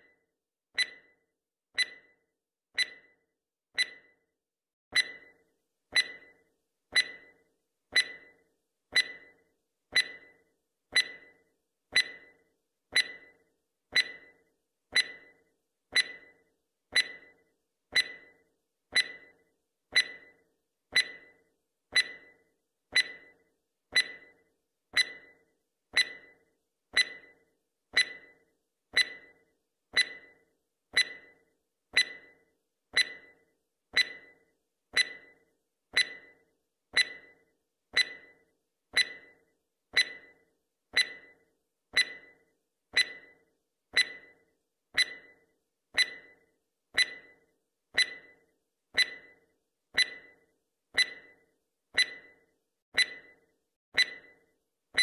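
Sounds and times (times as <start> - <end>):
clock ticking: 0.8 - 1.1, 1.8 - 2.2, 2.8 - 3.2, 3.8 - 4.2, 4.9 - 55.0.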